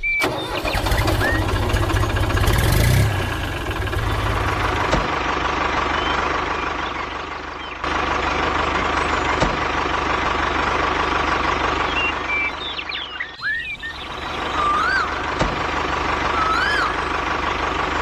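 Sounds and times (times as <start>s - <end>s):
heavy vehicle engine idling: 0.2s - 18.0s.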